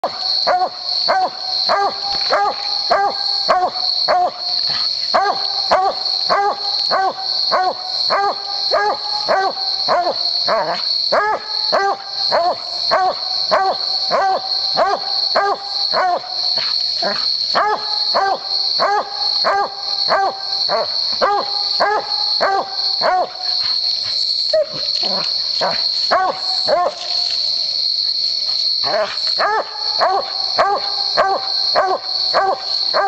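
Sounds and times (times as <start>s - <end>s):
dog barking: 0.4s - 23.4s, 24.6s - 27.0s, 28.8s - 33.0s.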